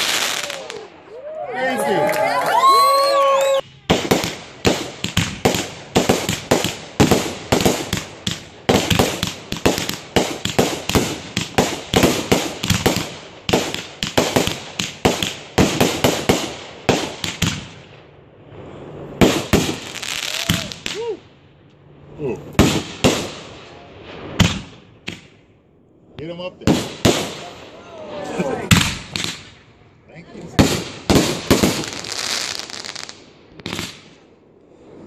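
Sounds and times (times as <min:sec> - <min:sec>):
fireworks bangs and crackles: 0:00.0 - 0:01.0, 0:03.6 - 0:21.4, 0:22.5 - 0:25.4, 0:26.1 - 0:35.0.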